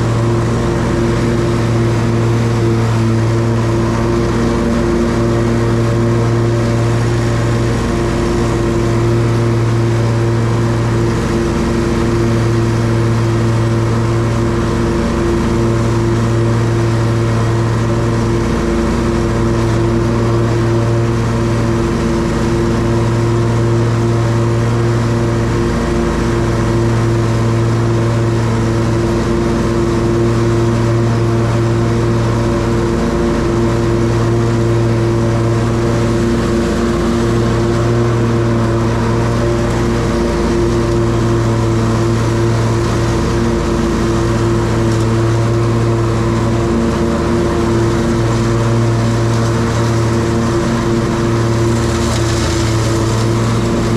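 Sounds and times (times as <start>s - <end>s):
lawn mower engine hum: 0.0s - 53.9s.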